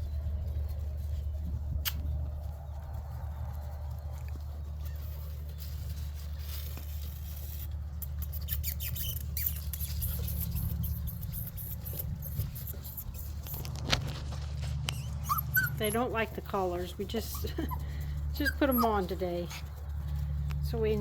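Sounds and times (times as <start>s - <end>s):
puppy claws scratching and pattering: 0.0s - 21.0s
steady low hum: 0.0s - 21.0s.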